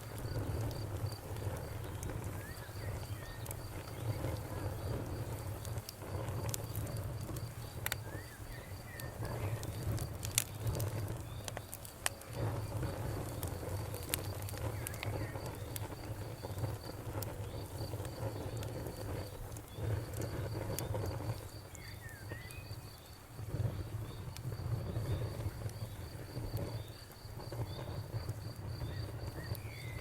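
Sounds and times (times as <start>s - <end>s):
bonfire crackling and popping: 0.0s - 30.0s
crickets trilling: 0.0s - 30.0s.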